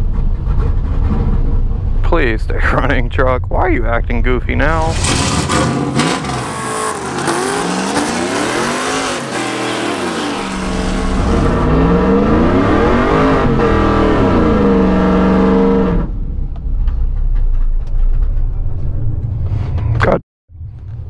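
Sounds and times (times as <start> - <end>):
engine low rumble: 0.0 - 21.0
truck engine accelerating: 0.0 - 21.0.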